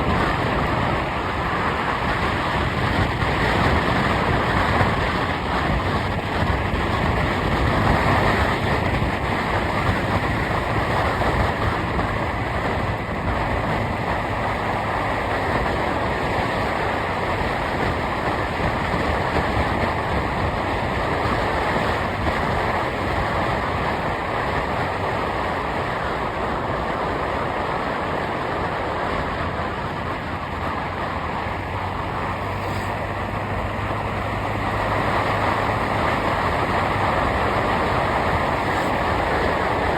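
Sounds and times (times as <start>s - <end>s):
low engine hum: 0.0s - 39.9s
road and wind noise: 0.0s - 39.9s.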